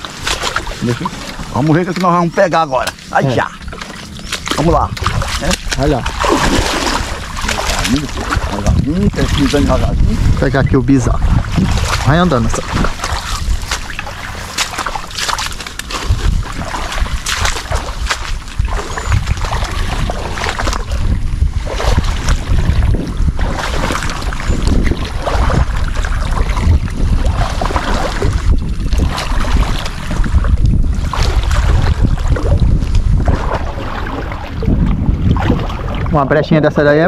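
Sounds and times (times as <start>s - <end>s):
steps wading through water: 0.0s - 36.4s
wind noise on microphone: 0.0s - 37.0s.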